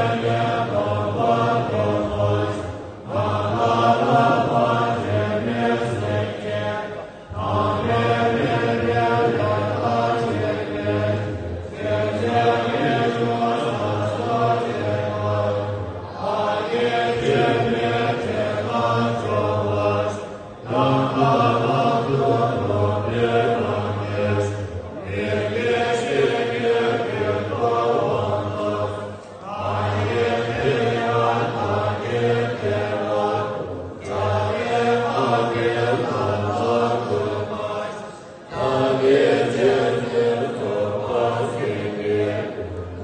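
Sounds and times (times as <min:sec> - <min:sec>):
monks chanting in deep voices: 0:00.0 - 0:43.0.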